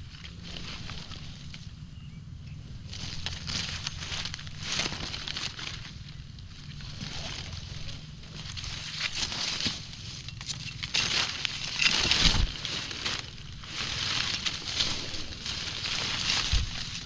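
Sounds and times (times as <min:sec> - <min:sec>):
leaves rustling and crunching underfoot: 0:00.0 - 0:02.0, 0:02.6 - 0:17.0.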